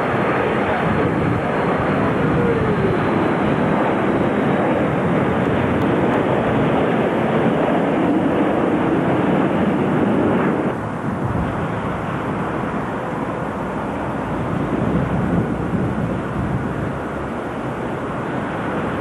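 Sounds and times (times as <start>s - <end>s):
distant jet noise: 0.0s - 19.0s
jet roar passing low: 0.0s - 19.0s.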